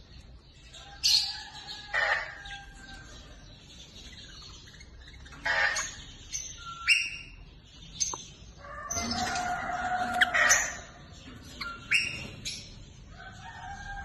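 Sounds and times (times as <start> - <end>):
caged birds calling: 0.0 - 14.0.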